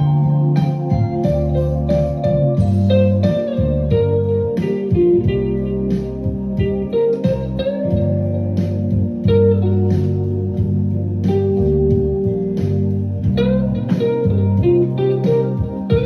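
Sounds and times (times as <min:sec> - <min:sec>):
guitar instrumental with beat: 0:00.0 - 0:16.0.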